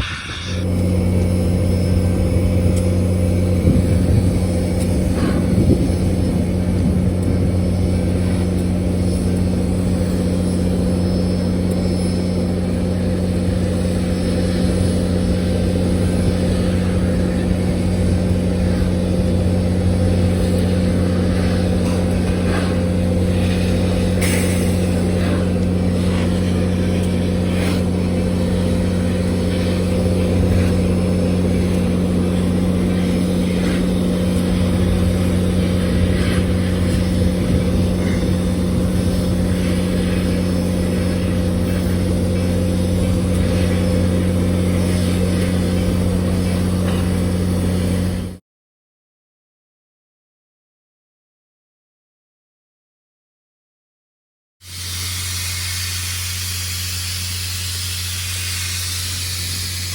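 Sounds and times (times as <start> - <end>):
moving train drone: 0.0 - 48.4, 54.7 - 59.9.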